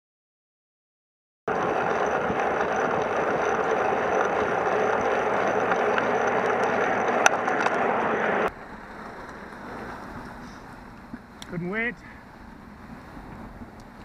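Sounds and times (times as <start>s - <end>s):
bicycle road and wind noise: 1.5s - 14.0s.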